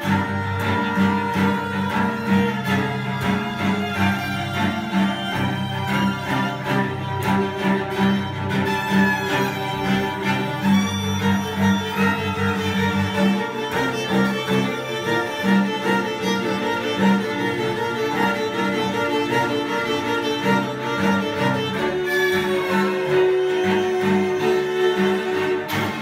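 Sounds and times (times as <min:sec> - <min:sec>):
string quartet playing: 0:00.0 - 0:26.0.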